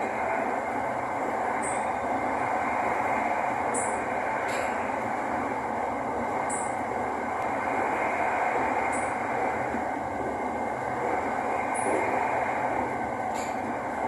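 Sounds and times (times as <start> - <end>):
train cabin running noise: 0.0 - 14.0.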